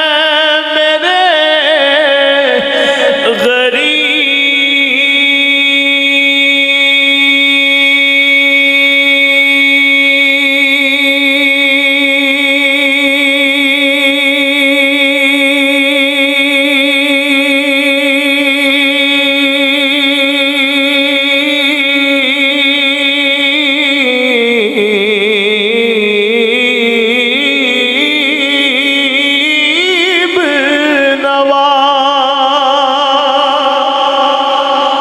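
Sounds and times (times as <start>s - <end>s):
man singing long note: 0.0s - 35.0s.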